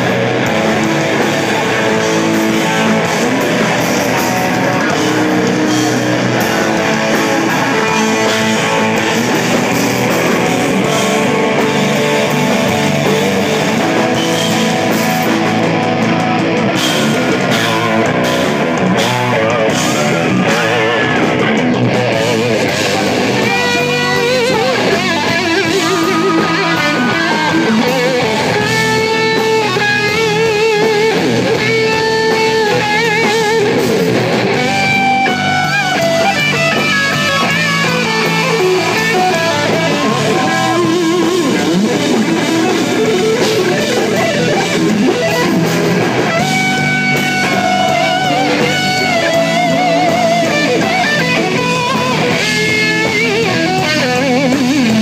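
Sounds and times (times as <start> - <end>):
bass and drums: 0.0 - 55.0
electric guitar solo: 0.0 - 55.0.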